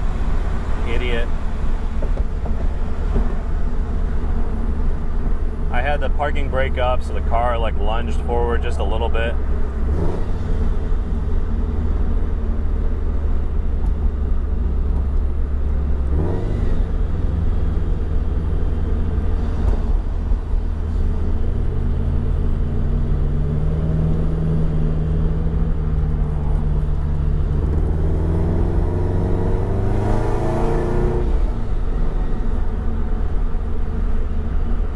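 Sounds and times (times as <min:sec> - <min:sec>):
sports car engine drone: 0:00.0 - 0:34.9.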